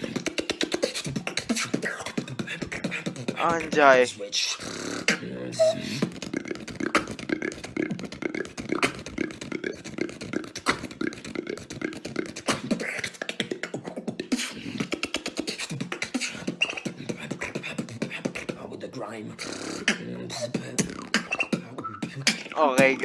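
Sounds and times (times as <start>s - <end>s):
person beatboxing: 0.0s - 23.0s.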